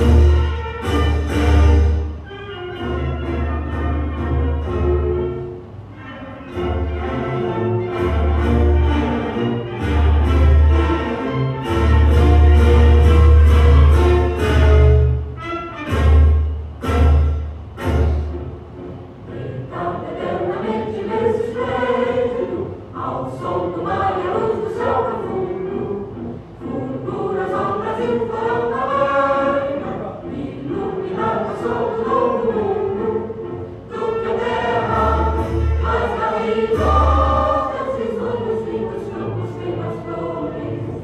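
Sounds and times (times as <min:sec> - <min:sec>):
choir singing with orchestra: 0:00.0 - 0:41.0.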